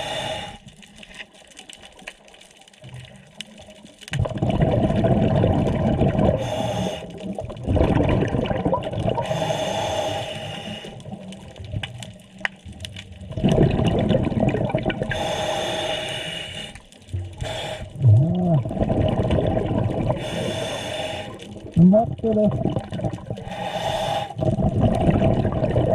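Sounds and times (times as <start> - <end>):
exhaled bubbles gurgling: 2.8 - 25.9.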